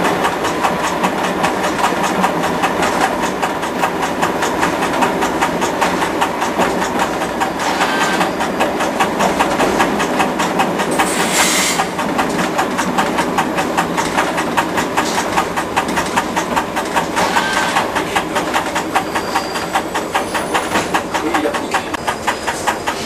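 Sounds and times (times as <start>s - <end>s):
train engine running: 0.0s - 23.0s
train wheels clicking over rails: 0.0s - 23.0s.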